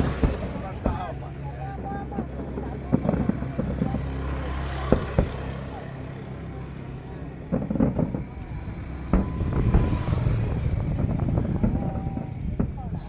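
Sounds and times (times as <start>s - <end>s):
fireworks bangs: 0.0s - 13.0s
low rumble of fireworks bursts: 0.0s - 13.0s
people's voices: 0.0s - 13.0s.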